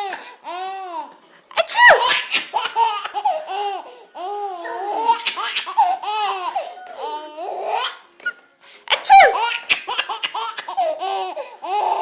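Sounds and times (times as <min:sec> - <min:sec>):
baby laughing: 0:00.5 - 0:08.0, 0:08.9 - 0:12.0.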